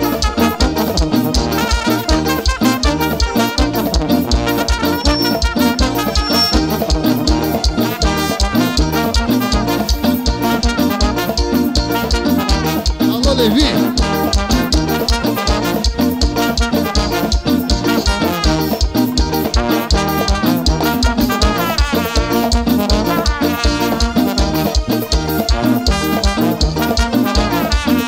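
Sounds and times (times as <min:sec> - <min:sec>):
live band dance music: 0:00.0 - 0:28.0.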